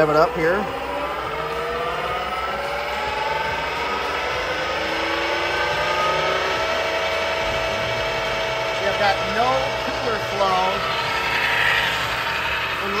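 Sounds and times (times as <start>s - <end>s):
transmission whine rising in pitch: 0.0s - 13.0s.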